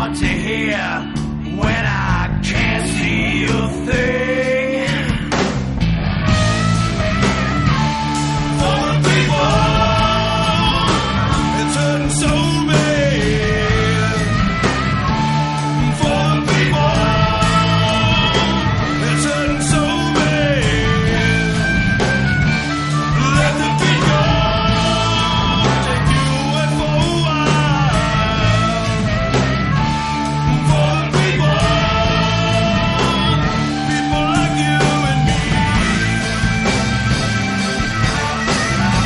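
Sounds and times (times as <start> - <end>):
person singing: 0.0 - 5.4, 7.6 - 22.3, 22.9 - 36.5
rock music: 0.0 - 39.0.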